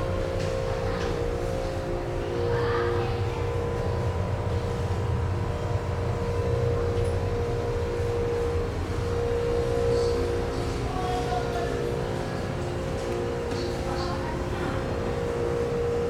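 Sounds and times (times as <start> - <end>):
machinery hum: 0.0 - 16.0
ship engines rumbling: 0.0 - 16.0.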